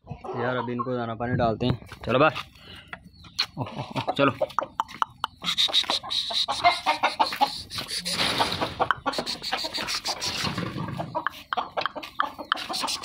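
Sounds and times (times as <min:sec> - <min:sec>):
hens and rooster clucking: 0:00.0 - 0:13.0.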